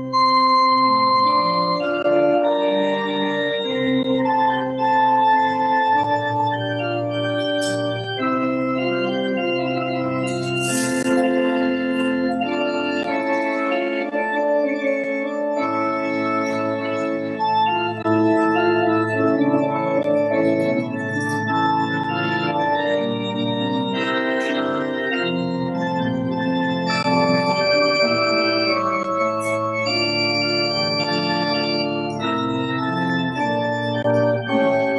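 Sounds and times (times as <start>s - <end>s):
organ playing held chords: 0.0s - 34.9s.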